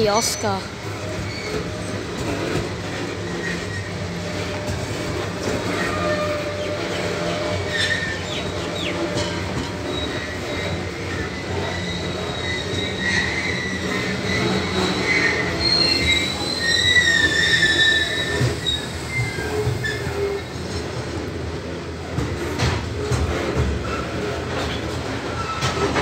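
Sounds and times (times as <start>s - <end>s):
wheels squealing: 0.0s - 20.9s, 23.3s - 26.0s
freight train rumbling past: 0.0s - 26.0s.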